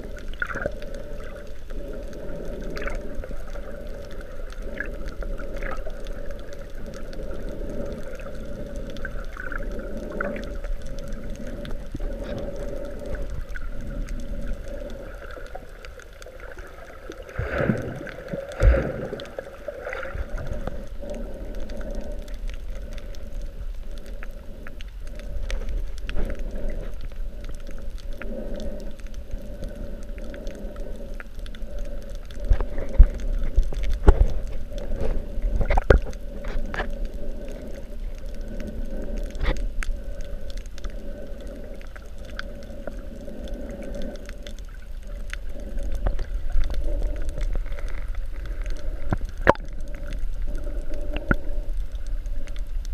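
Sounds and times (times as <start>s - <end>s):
muffled underwater drone: 0.0s - 52.9s
water swishing: 0.0s - 52.9s.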